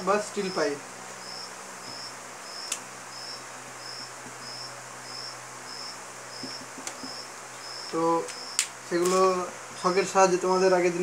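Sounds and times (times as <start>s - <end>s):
insect chirping: 0.0s - 10.6s
low steady hum: 0.0s - 11.0s.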